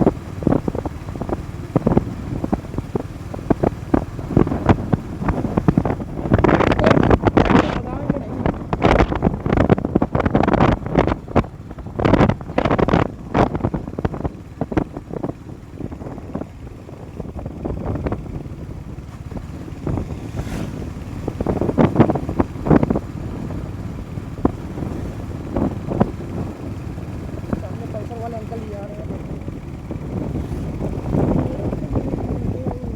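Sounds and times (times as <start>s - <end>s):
motorcycle engine and road rumble: 0.0s - 32.9s
wind buffeting microphone: 0.0s - 32.9s.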